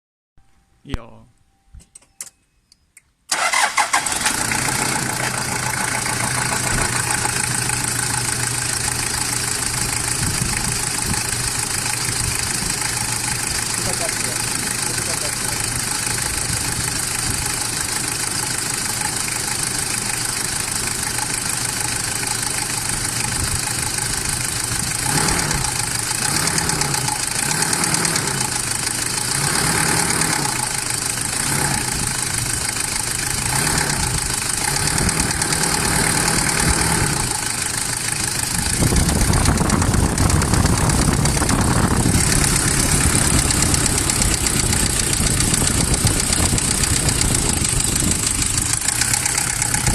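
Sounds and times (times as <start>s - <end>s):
engine rattling: 3.3s - 49.9s
engine idling and revving: 3.4s - 49.9s.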